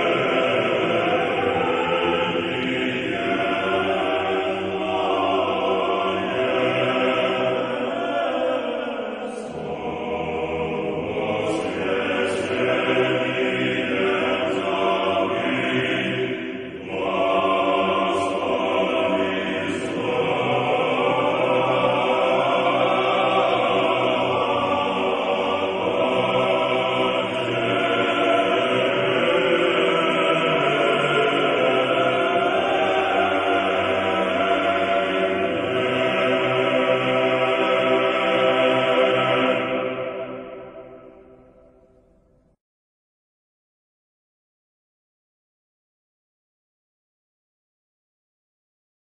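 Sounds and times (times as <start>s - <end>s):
choir chanting: 0.0s - 42.1s.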